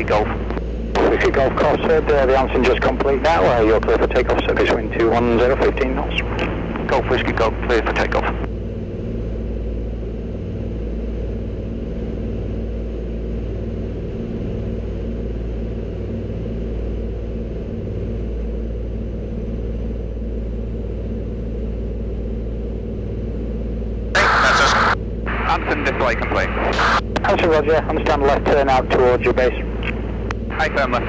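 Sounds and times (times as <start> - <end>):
aircraft engines droning: 0.0 - 31.0.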